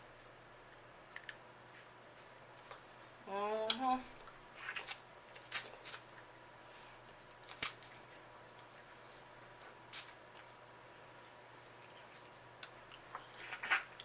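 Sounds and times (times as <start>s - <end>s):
soft wet squishing: 0.2s - 14.0s.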